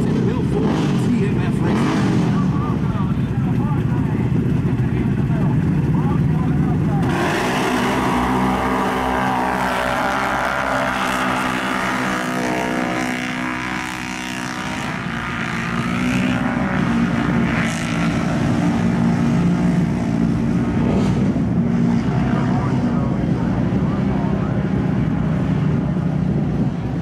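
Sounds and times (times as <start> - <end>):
atv engines racing: 0.0 - 27.0.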